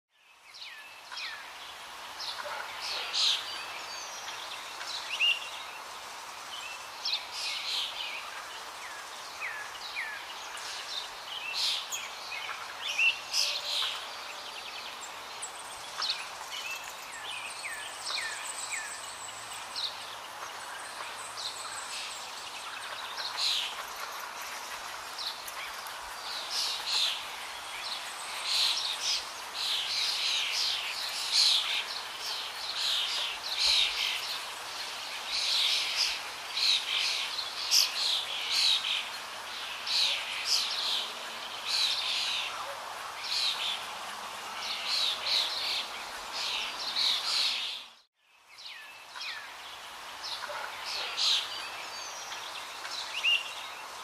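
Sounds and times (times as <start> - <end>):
small birds chirping: 0.1 - 54.0
steady background hiss: 0.2 - 54.0.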